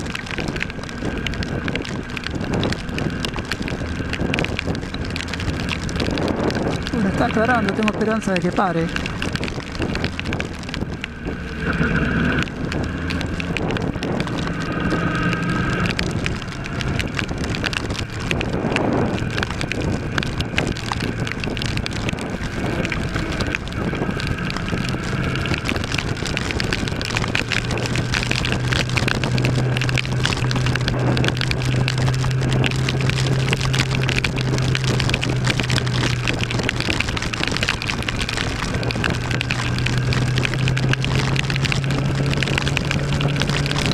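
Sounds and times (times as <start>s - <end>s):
wind and rain noise: 0.0s - 43.9s.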